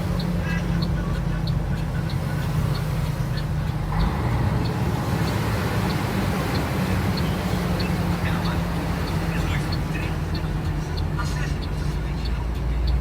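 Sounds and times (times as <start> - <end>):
broad rushing noise: 0.0 - 12.2
light ticking: 0.0 - 13.0
vehicle engine running: 0.0 - 13.0.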